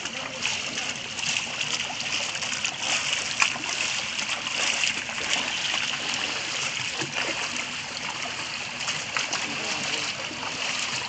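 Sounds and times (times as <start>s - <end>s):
feet splashing through water: 0.0s - 11.0s.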